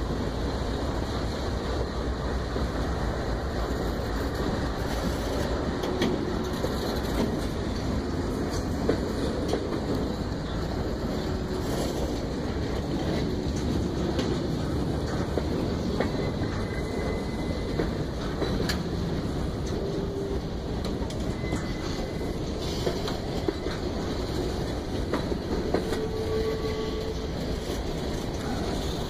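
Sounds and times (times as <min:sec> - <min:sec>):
freight train passing: 0:00.0 - 0:29.0
wheels clicking over rail joints: 0:00.0 - 0:29.0.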